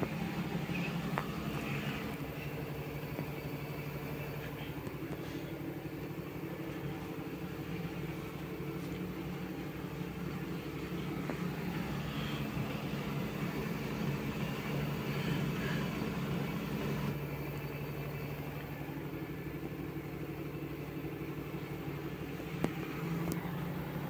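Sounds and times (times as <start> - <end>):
washing machine spinning hum: 0.0 - 24.0.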